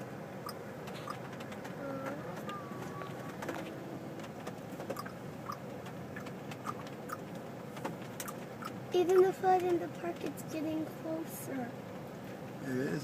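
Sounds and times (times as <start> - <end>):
car interior noise: 0.0 - 13.0.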